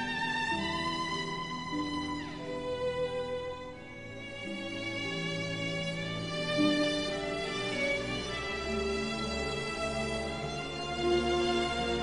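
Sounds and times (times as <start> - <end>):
slow violin music: 0.0 - 12.0.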